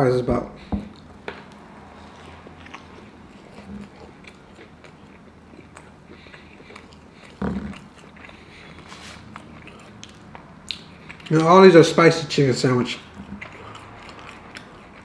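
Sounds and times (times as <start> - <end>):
wet mouth sounds: 0.6 - 11.5, 12.9 - 15.0
person chewing crunchy food: 0.6 - 15.0.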